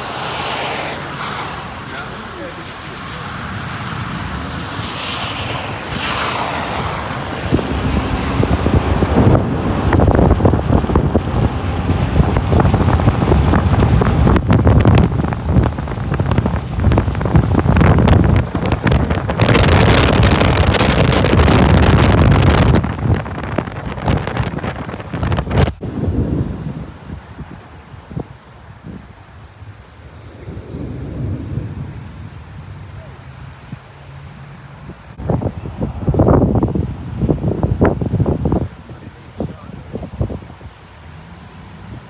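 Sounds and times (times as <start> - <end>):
vehicle passing on wet road: 0.0 - 42.0
wind buffeting microphone: 1.6 - 42.0.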